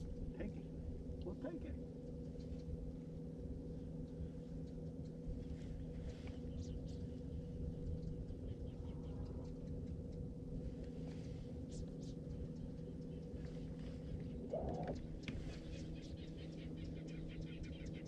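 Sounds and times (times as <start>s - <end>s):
boat motor humming: 0.0s - 18.0s
faint ticks and squeaks: 0.0s - 18.0s.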